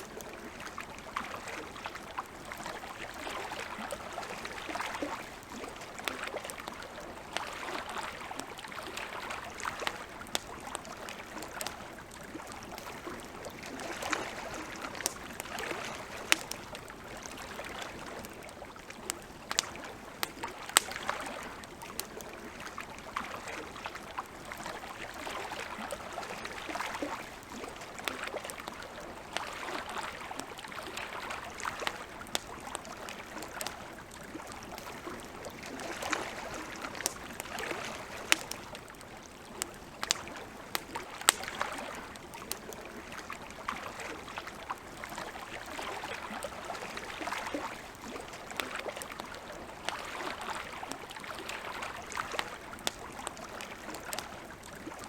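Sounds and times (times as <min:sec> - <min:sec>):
campfire crackling and popping: 0:00.0 - 0:55.0
lake water lapping: 0:00.0 - 0:55.0.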